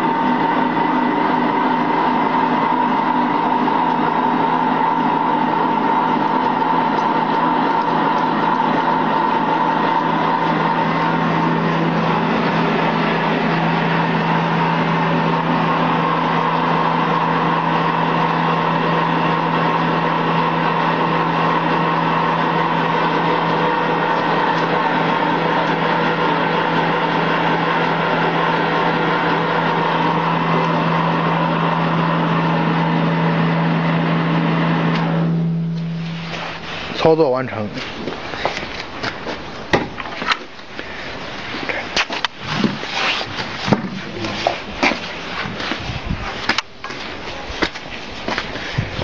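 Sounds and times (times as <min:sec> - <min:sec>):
spraying machine droning: 0:00.0 - 0:49.0.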